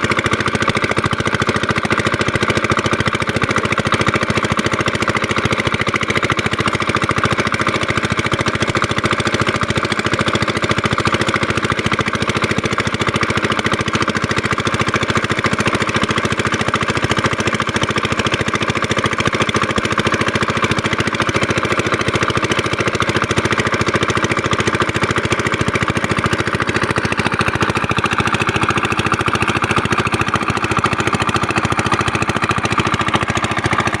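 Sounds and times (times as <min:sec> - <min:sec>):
diesel engine driving water pump: 0:00.0 - 0:34.0.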